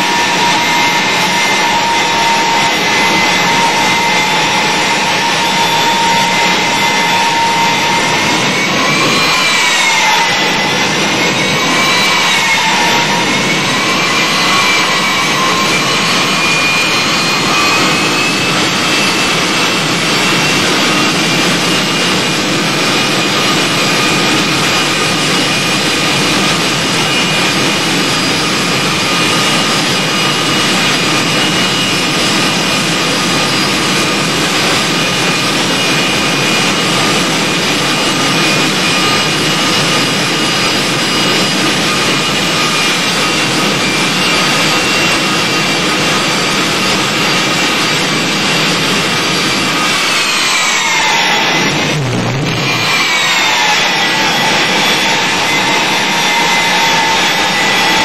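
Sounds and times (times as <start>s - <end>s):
jet engine roaring with whine: 0.0s - 58.0s.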